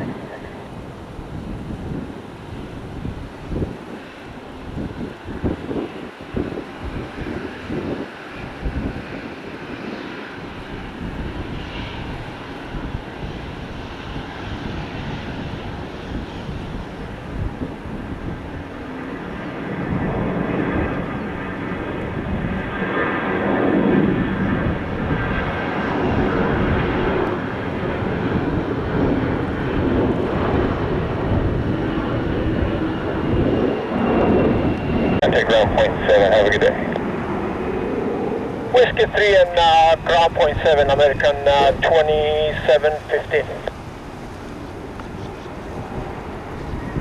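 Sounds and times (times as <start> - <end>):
jet engines running: 0.0 - 47.0
wind on microphone: 0.0 - 47.0.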